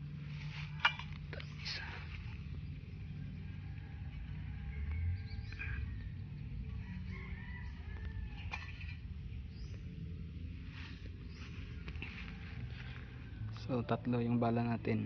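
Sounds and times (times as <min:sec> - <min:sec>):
birds calling: 0:00.0 - 0:15.0
low steady rumble: 0:00.0 - 0:15.0.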